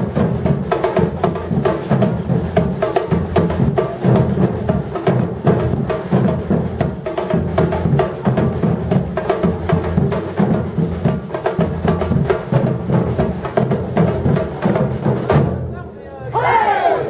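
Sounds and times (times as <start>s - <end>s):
drum ensemble playing: 0.0s - 15.7s.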